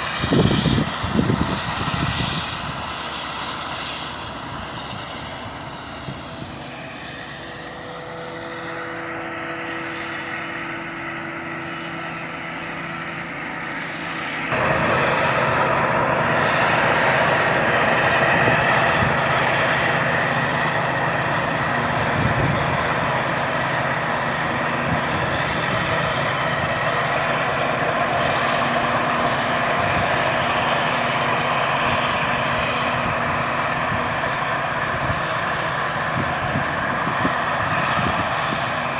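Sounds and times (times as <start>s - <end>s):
harvester engine droning: 0.0s - 38.9s.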